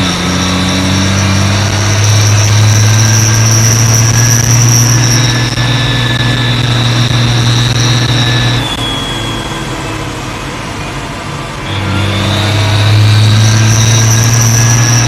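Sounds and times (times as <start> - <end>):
diesel tractor engine hum: 0.0 - 15.0
turbo whistle: 0.0 - 15.0.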